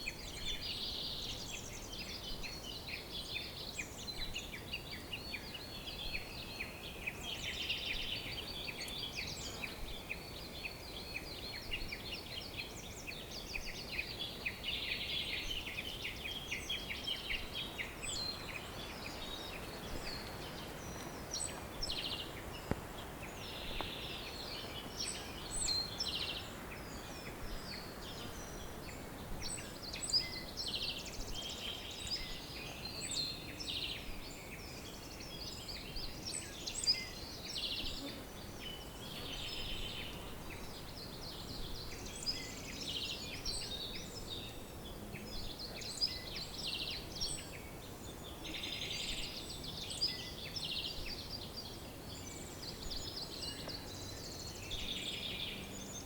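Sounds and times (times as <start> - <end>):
faint steady hiss: 0.0 - 56.0
songbirds chirping and trilling: 0.0 - 56.0.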